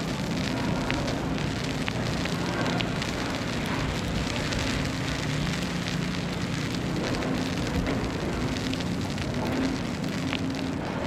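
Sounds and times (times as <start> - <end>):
crackling hiss of snow and wind: 0.0 - 11.0.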